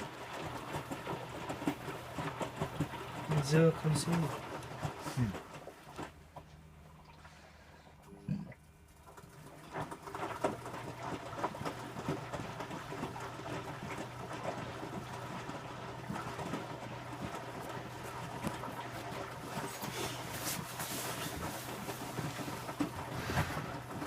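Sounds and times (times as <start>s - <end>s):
washing machine motor hum: 0.0s - 24.0s
wet laundry sloshing in drum: 0.0s - 24.0s.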